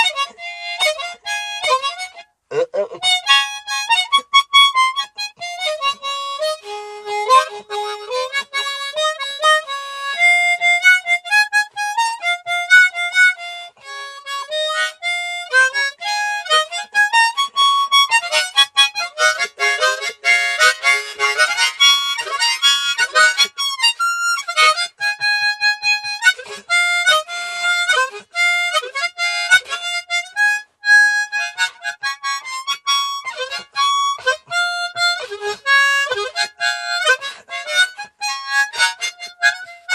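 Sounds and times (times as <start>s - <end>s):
harmonica playing: 0.0s - 39.9s.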